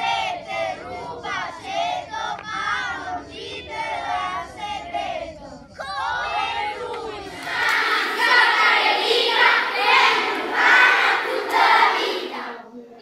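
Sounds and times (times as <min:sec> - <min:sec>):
children singing in unison: 0:00.0 - 0:12.6.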